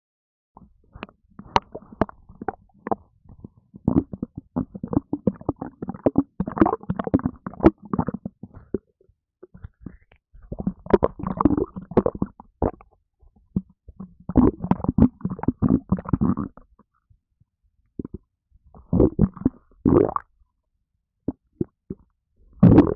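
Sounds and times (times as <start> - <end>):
stomach gurgling: 0.6 - 17.0, 18.0 - 20.4, 21.3 - 22.9.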